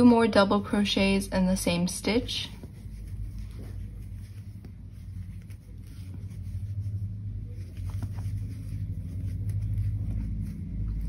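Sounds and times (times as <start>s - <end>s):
low background rumble: 0.0s - 11.0s
crochet hook scratching yarn: 0.9s - 11.0s.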